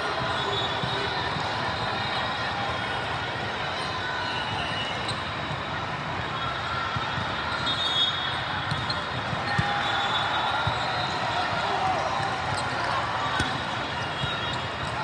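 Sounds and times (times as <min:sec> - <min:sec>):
background murmur: 0:00.0 - 0:15.0.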